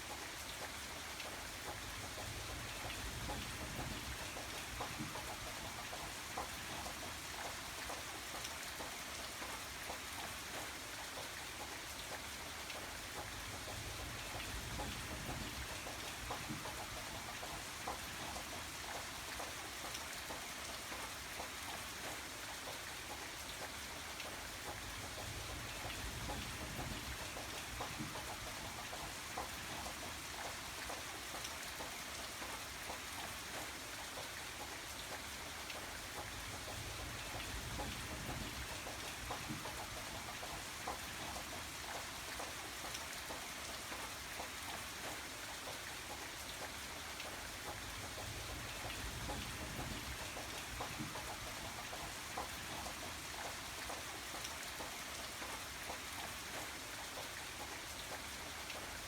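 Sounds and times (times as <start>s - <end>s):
rain falling: 0.0s - 59.0s
raindrops ticking on a surface: 0.0s - 59.0s.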